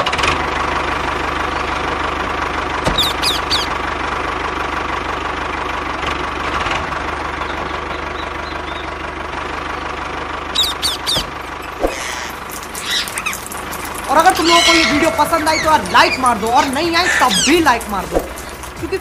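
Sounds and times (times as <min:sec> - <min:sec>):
diesel tractor engine idling: 0:00.0 - 0:19.0.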